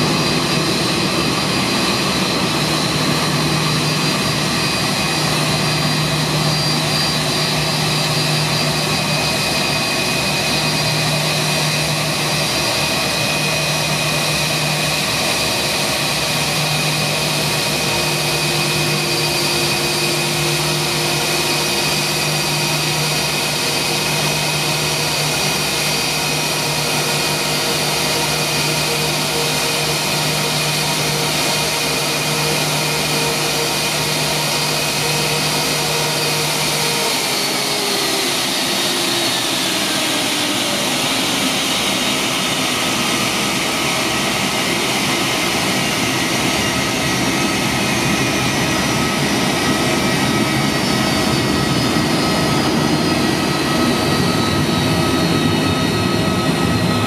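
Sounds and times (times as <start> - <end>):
jet engines idling with whine: 0.0 - 57.0.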